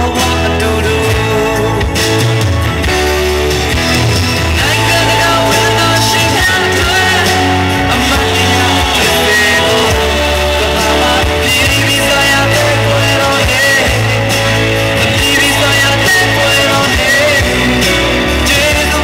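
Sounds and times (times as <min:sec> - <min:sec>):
man singing into microphone: 0:00.0 - 0:02.4, 0:04.5 - 0:19.0
amplified band music: 0:00.0 - 0:19.0.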